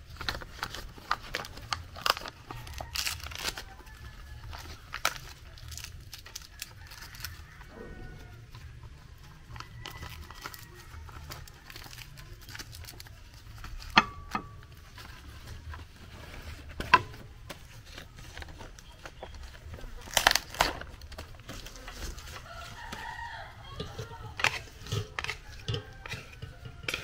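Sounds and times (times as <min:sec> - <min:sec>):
leaves rustling and crinkling: 0:00.0 - 0:27.0
small crackles: 0:00.0 - 0:27.0.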